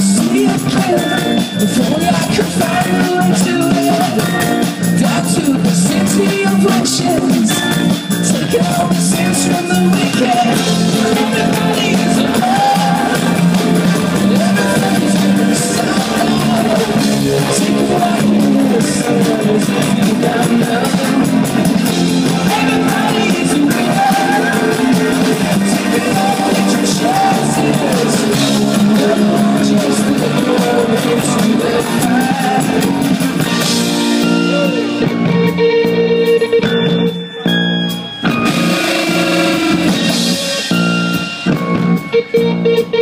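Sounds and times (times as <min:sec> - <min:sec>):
man singing: 0:00.0 - 0:36.7, 0:38.1 - 0:40.9
live rock band playing: 0:00.0 - 0:43.0.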